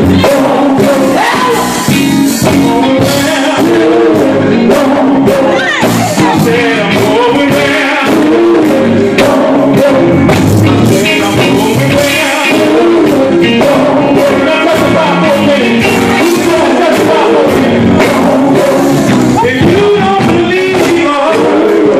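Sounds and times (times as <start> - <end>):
band playing with steady beat: 0.0 - 21.9
male group singing gospel: 0.0 - 21.9
man singing into a microphone: 0.0 - 21.9.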